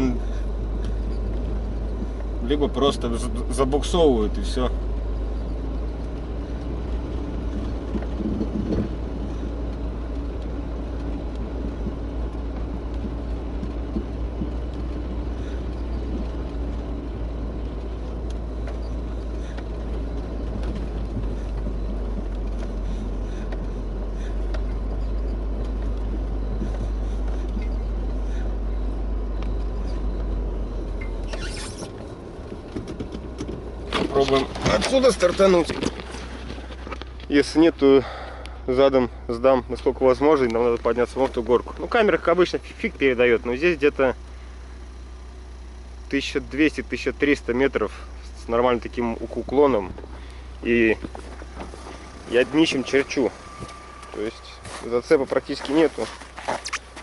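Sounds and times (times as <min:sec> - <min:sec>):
tyres rolling over snow: 0:00.0 - 0:45.3, 0:46.1 - 0:57.0
car engine rumbling: 0:00.0 - 0:57.0.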